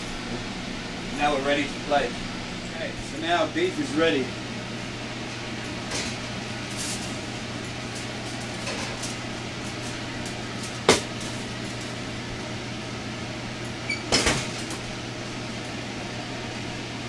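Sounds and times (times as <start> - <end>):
low kitchen hum: 0.0 - 17.0.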